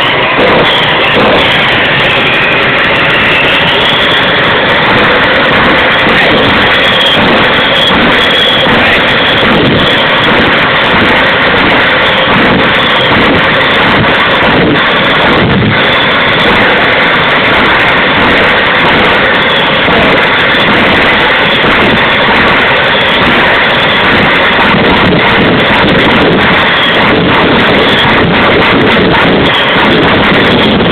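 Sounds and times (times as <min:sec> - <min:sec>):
faint high whine: 0:00.0 - 0:30.9
gas turbine engine rushing: 0:00.0 - 0:30.9.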